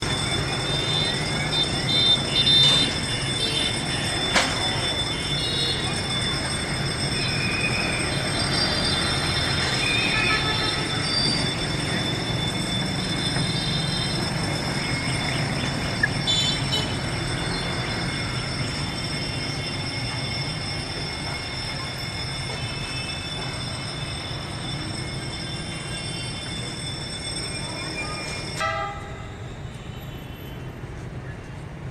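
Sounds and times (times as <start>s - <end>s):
train rumbling past: 0.0s - 29.9s
high-pitched wheel squeal: 0.0s - 31.0s.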